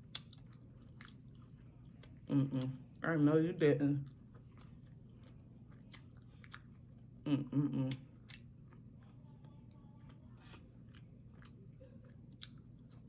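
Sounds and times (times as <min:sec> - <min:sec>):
close-up chewing: 0:00.0 - 0:03.0, 0:04.0 - 0:07.2, 0:07.8 - 0:13.0.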